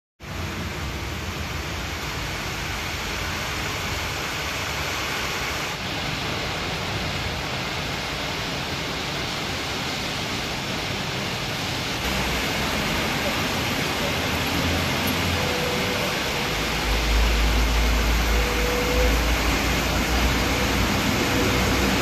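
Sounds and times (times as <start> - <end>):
steady rainfall: 0.2 - 22.0.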